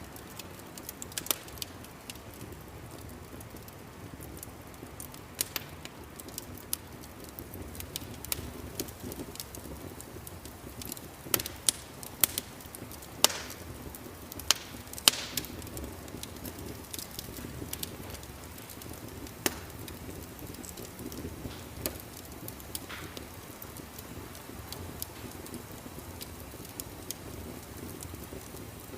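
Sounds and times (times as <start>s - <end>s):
fireplace fire crackling: 0.0s - 28.9s.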